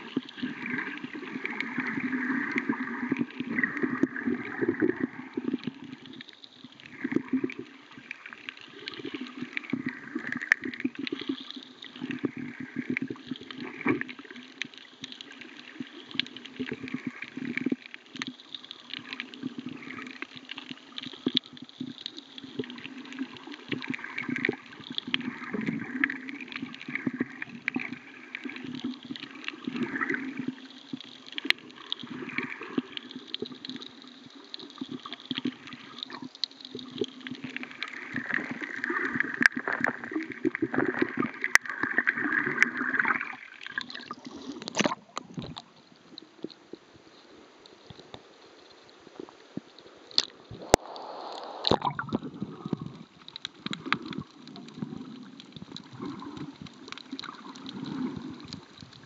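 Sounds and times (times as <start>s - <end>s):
rush of bubbles: 0.0s - 45.8s, 50.2s - 59.0s
underwater gurgling and sloshing: 0.0s - 59.0s.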